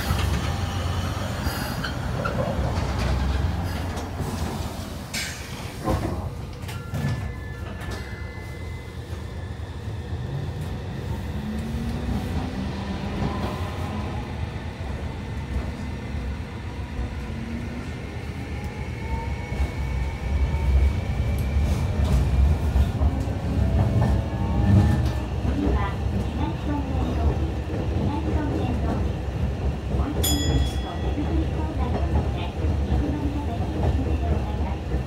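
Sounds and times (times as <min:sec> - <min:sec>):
tram motors whining: 0:00.0 - 0:35.0
wheels rumbling on rail: 0:00.0 - 0:35.0.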